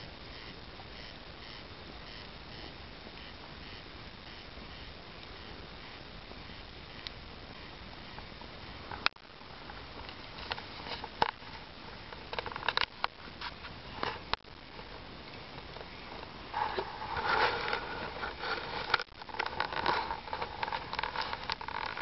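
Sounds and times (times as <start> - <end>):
bonfire crackling: 0.0 - 22.0
burning logs popping: 0.1 - 22.0.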